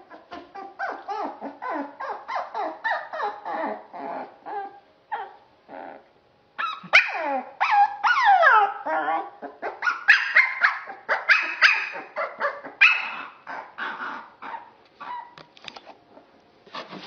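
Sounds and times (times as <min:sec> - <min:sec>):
puppy yipping and whining: 0:00.0 - 0:15.4.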